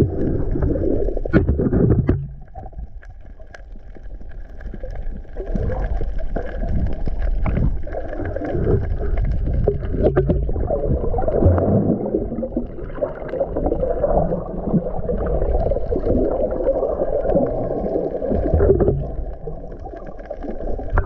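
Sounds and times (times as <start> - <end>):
underwater rumble and slosh: 0.0 - 21.0.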